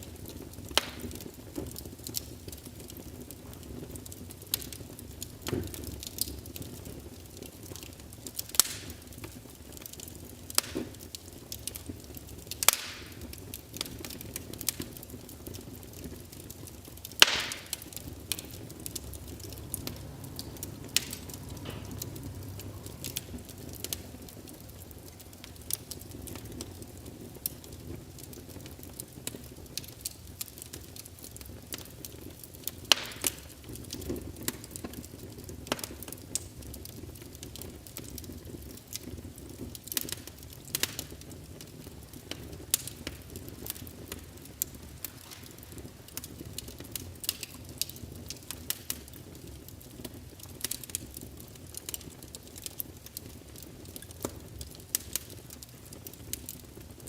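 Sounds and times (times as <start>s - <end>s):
fireplace crackling: 0.0s - 57.0s.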